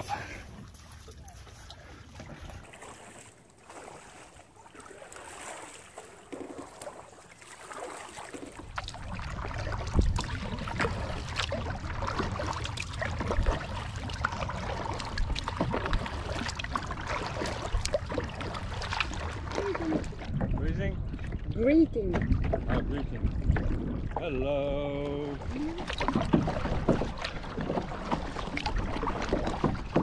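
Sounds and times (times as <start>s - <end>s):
paddle splashing water: 0.0s - 30.0s.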